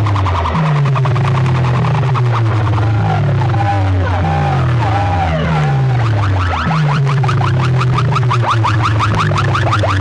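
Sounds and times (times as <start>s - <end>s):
deep droning bass: 0.0s - 10.0s
rising electronic chirps: 0.0s - 10.0s.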